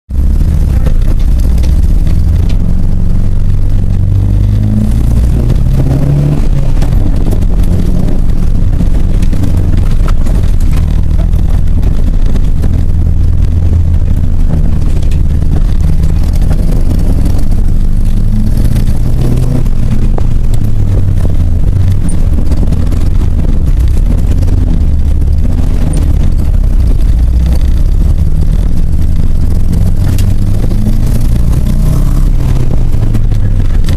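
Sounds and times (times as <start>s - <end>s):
rough car engine revving: 0.1s - 33.9s.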